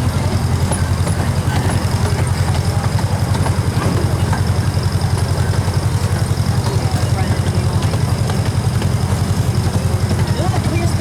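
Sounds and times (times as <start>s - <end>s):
train engine rumble: 0.0s - 11.0s.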